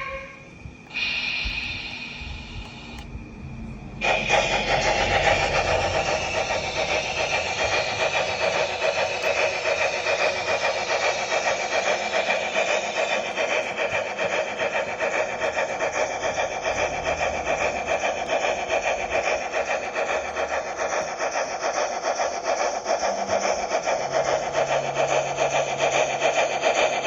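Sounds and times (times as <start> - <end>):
model steam locomotive chuffing: 0.0 - 27.0.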